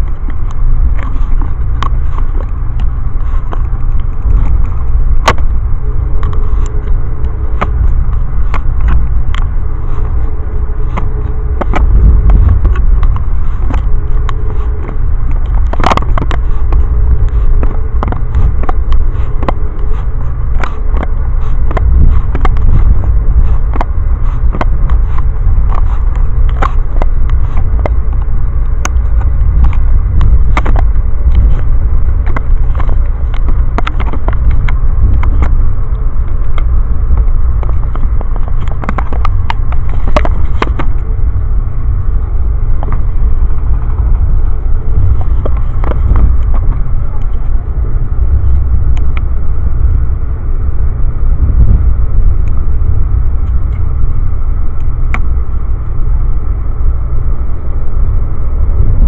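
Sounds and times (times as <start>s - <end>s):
train rumble inside coach: 0.0s - 59.0s.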